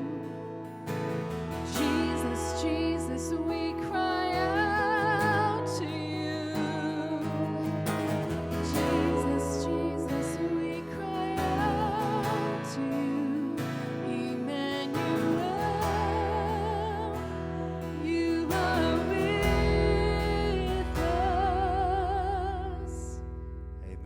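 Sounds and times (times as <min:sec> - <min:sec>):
person singing with vibrato: 0:00.0 - 0:23.2.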